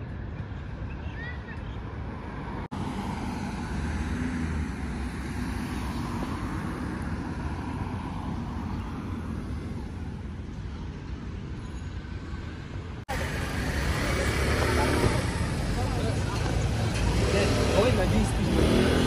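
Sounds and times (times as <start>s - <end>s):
passing car engines and tyres: 1.8s - 19.0s.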